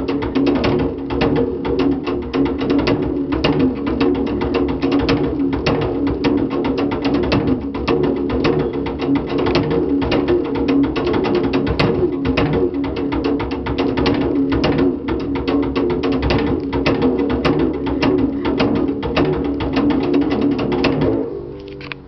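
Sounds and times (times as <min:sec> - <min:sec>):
beater drumming on bucket: 0:00.0 - 0:22.0
low droning string tone: 0:00.0 - 0:22.0.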